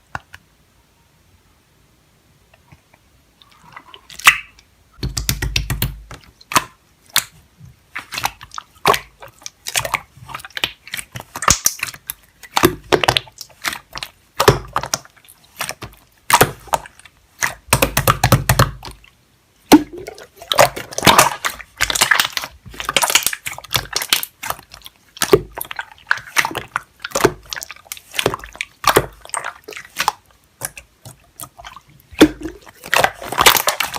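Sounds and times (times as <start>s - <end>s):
slime being squished by hand: 4.1s - 33.9s.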